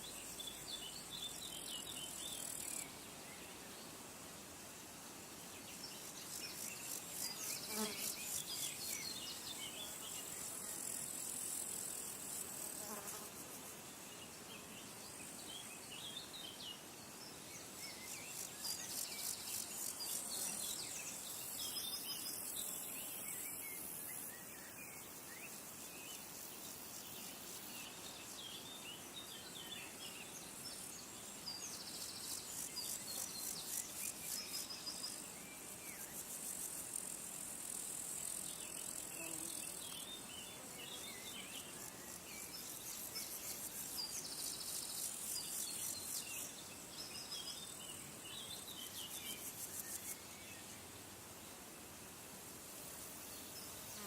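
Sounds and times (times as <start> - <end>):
insects trilling: 0.0 - 3.0, 5.8 - 13.6, 17.5 - 51.0.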